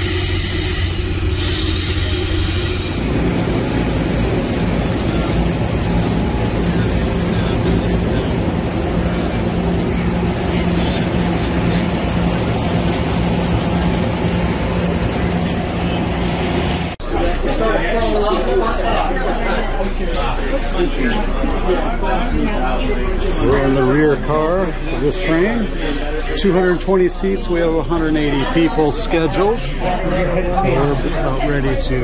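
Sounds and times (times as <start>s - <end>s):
engine drone: 0.0s - 29.2s.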